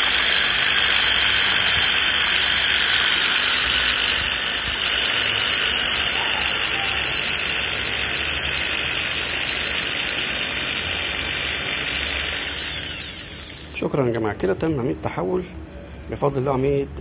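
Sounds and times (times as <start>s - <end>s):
electric stirrer motor whirring: 0.0s - 13.8s.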